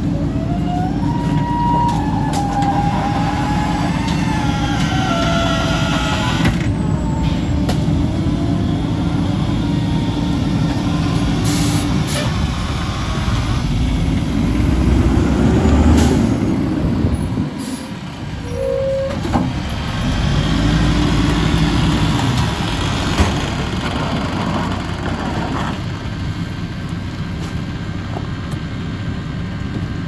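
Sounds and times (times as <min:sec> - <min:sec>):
garbage truck diesel engine: 0:00.0 - 0:30.0.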